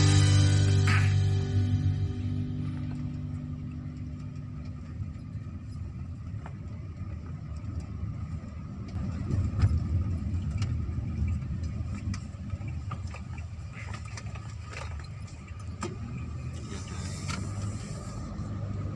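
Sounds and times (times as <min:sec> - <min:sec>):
vehicle engine rumbling: 0:00.0 - 0:18.9.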